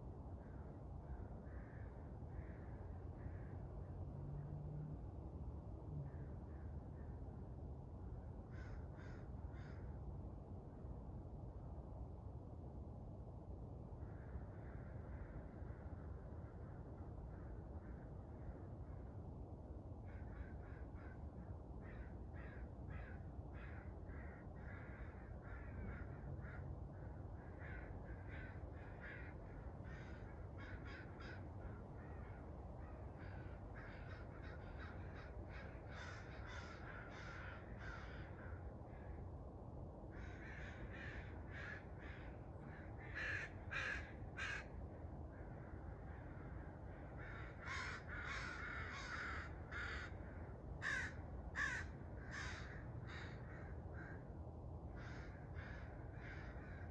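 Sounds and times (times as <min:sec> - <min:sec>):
low background hum: 0:00.0 - 0:56.9.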